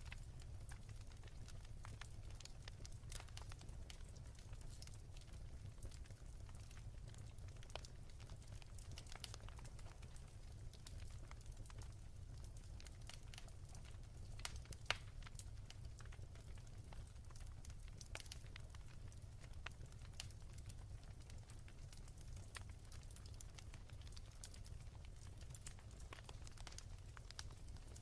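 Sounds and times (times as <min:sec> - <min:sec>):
firewood crackling and popping: 0:00.0 - 0:28.0.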